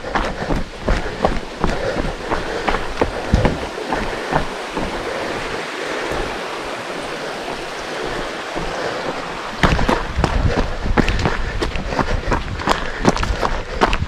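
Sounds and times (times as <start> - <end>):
footsteps on trail: 0.0 - 14.0
mountain stream rushing: 0.0 - 14.0.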